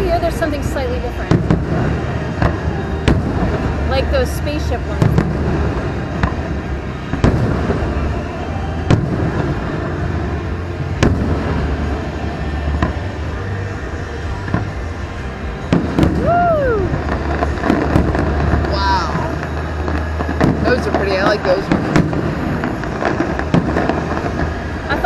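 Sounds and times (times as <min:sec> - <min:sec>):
distant fireworks booming: 0:00.0 - 0:25.0
steady low rumble: 0:00.0 - 0:25.0.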